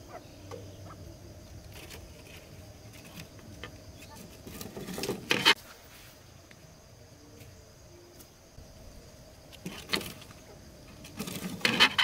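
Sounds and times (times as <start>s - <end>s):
faint insects humming: 0.0s - 12.0s.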